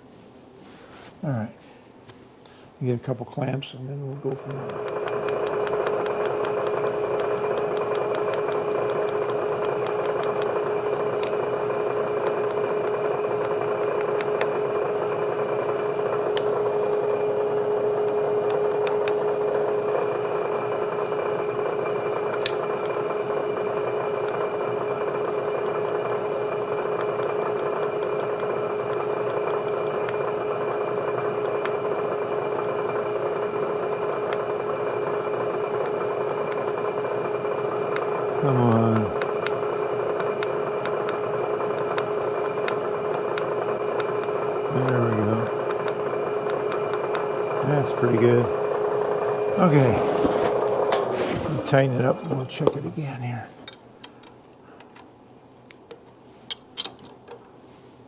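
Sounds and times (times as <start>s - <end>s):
steady machine hum: 0.0s - 57.6s.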